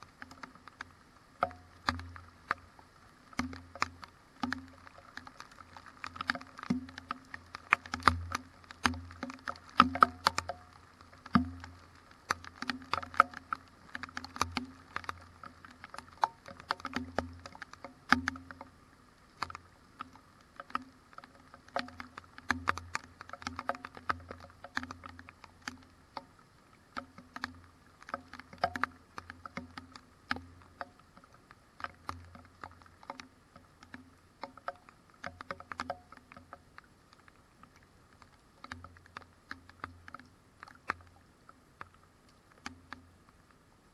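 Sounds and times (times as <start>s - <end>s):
raindrops tapping on camera housing: 0.0s - 43.6s.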